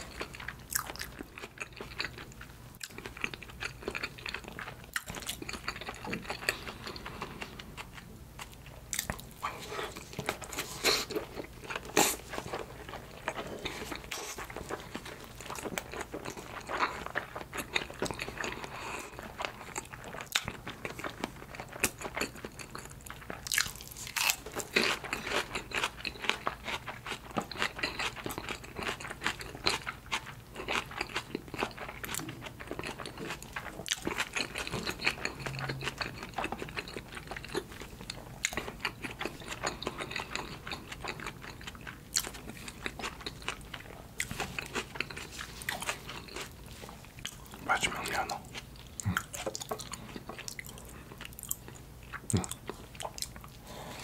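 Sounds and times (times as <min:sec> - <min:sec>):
chewing and mouth sounds: 0:00.0 - 0:54.0.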